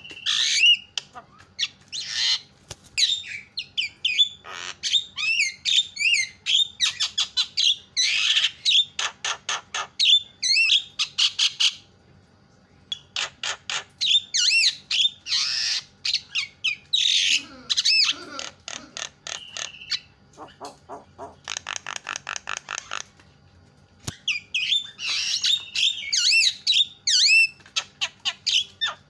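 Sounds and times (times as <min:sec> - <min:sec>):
myna bird singing: 0:00.0 - 0:11.8, 0:12.7 - 0:23.1, 0:24.0 - 0:29.0.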